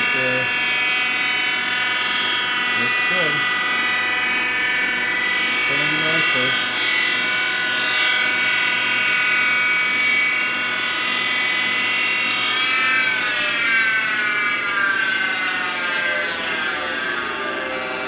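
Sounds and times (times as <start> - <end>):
wood lathe whining: 0.0 - 18.0.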